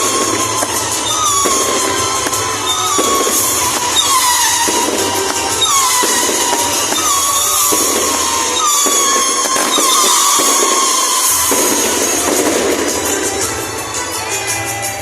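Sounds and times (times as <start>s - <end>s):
firework crackle: 0.0s - 15.0s
firework whistles: 0.0s - 15.0s.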